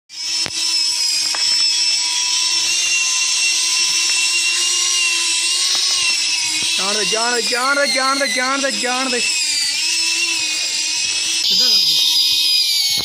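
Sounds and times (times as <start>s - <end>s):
electric motor whine: 0.1s - 13.0s.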